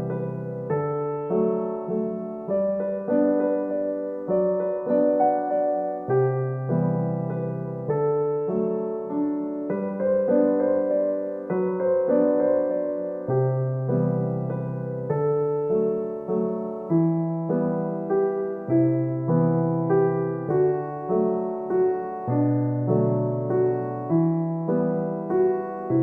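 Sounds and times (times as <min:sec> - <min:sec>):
gentle solo piano: 0:00.0 - 0:26.0.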